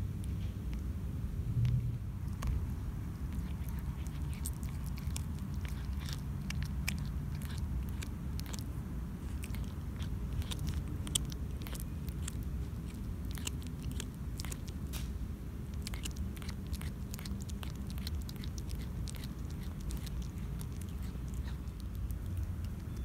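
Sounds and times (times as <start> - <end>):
cat chewing: 0.0 - 23.0
steady low rumble: 0.0 - 23.0.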